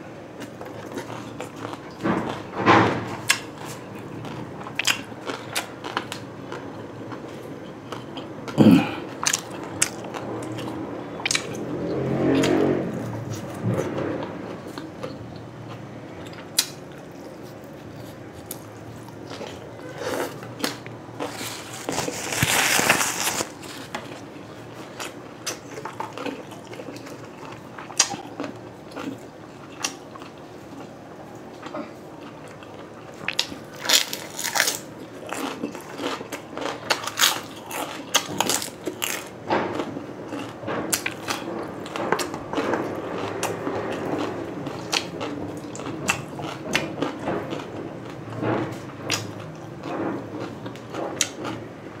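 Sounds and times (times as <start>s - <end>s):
person chewing grilled meat: 0.3s - 52.0s.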